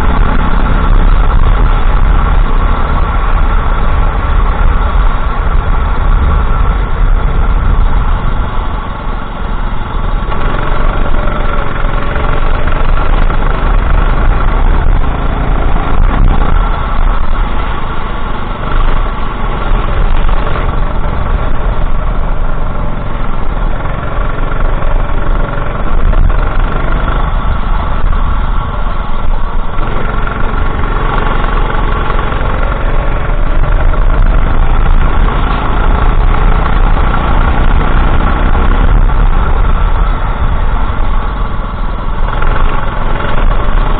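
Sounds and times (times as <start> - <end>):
go-kart engine revving: 0.0 - 43.9
heavy low rumble: 0.0 - 43.9.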